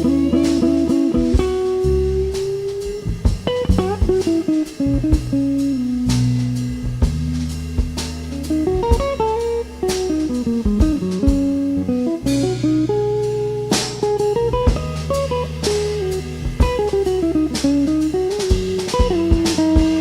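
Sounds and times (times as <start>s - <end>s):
bass notes: 0.0s - 20.0s
drum kit: 0.0s - 20.0s
lead guitar melody: 0.0s - 20.0s.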